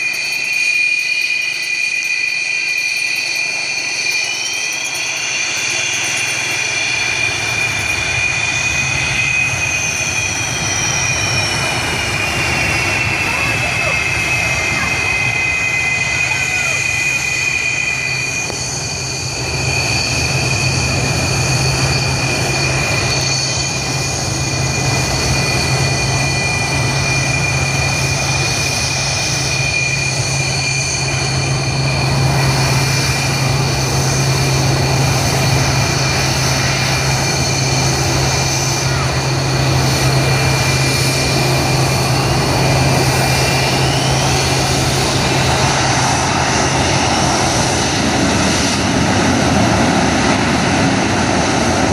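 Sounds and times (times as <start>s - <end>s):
jet engines idling: 0.0s - 51.9s.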